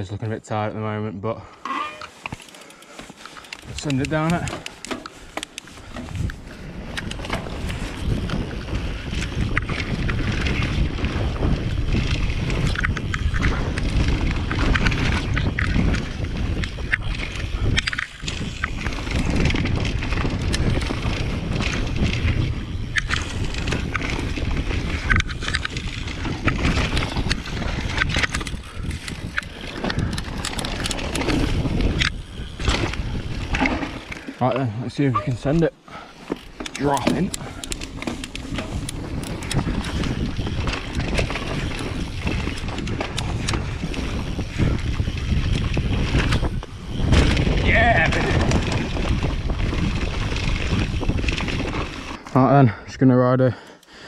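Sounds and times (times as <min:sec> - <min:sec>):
bike tyres rolling over dirt: 0:01.4 - 0:53.6
bike clattering over bumps: 0:01.8 - 0:52.2
wind buffeting microphone: 0:03.6 - 0:52.8.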